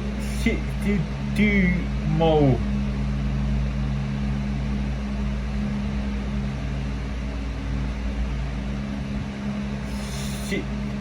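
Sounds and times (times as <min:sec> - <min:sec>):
constant hiss and rumble: 0:00.0 - 0:11.0
low mechanical hum: 0:00.0 - 0:11.0.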